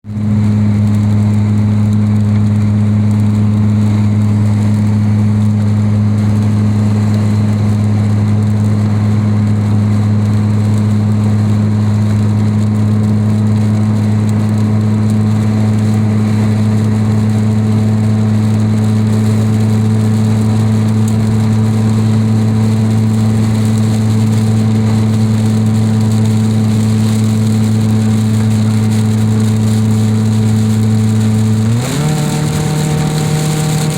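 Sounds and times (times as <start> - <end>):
loud low hum: 0.0 - 33.9
heavy rain hissing: 0.2 - 33.9.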